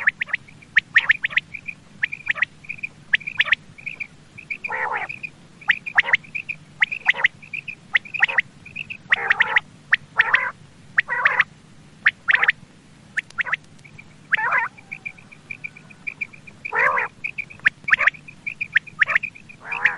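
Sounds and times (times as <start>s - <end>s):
fast high ticking: 0.0s - 10.2s, 13.2s - 19.9s
harsh raspy bird calls: 0.0s - 19.9s
quail calling: 0.0s - 19.9s.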